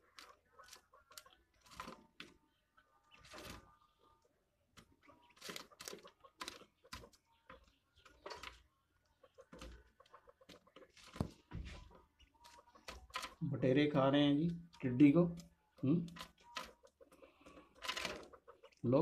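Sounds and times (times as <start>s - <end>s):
soft clucking: 0.0s - 13.5s, 14.4s - 19.0s
quails pecking on wooden boards: 0.0s - 19.0s.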